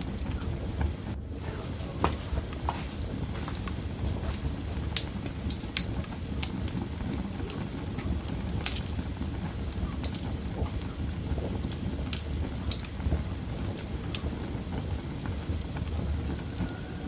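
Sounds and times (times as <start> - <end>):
fireplace flames rumbling: 0.0 - 17.0
wood crackling and popping: 0.0 - 17.0.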